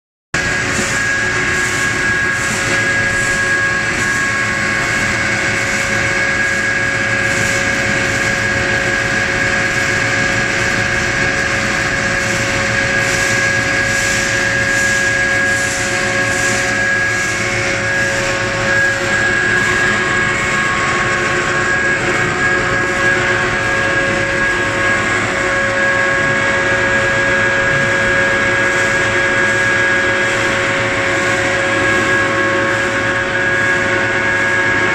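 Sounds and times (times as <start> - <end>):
loud machine drone with whine: 0.4 - 34.9.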